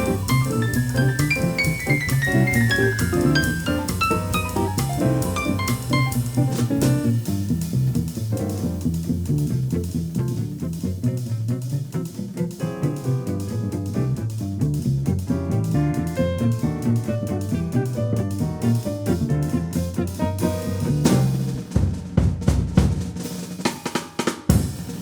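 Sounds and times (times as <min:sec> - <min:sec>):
plucked double bass: 0:00.0 - 0:21.6
jazz chords: 0:00.0 - 0:22.2
drum kit cymbal and snare: 0:00.0 - 0:25.0.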